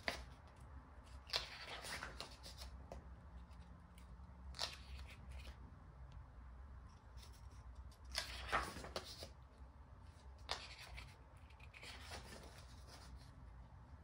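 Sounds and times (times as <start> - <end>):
paper and card rustling: 0.0 - 5.6, 7.0 - 9.4, 10.1 - 13.4
faint low hum: 0.0 - 14.0.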